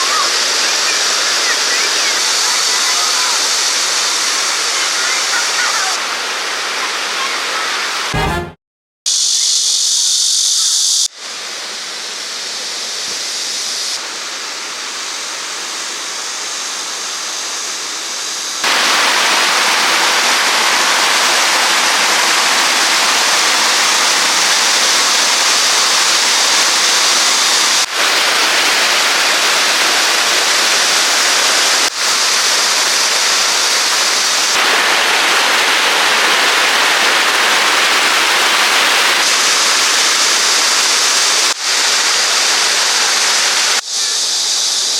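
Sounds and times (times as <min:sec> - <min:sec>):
water rushing in a rocky stream: 0:00.0 - 0:08.1, 0:14.0 - 0:43.8.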